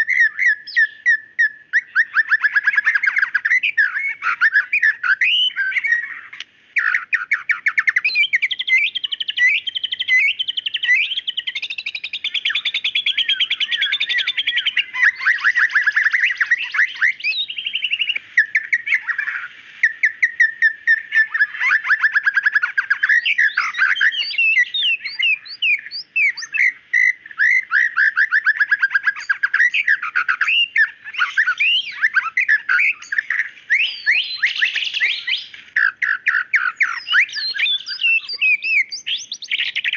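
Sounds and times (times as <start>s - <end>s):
bird song whistles and trills: 0.0s - 39.9s.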